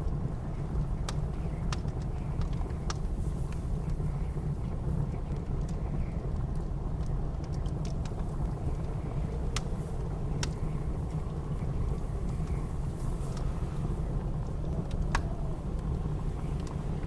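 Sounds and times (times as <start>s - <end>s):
blizzard wind rushing: 0.0s - 17.0s
wood fire crackling: 0.0s - 17.0s.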